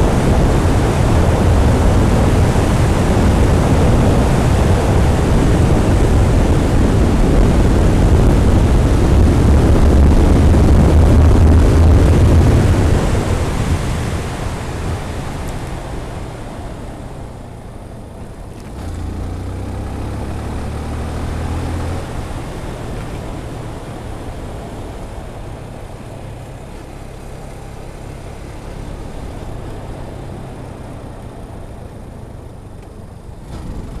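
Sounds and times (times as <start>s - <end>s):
motorcycle engine running: 0.0s - 34.0s
wind rushing over microphone: 0.0s - 34.0s.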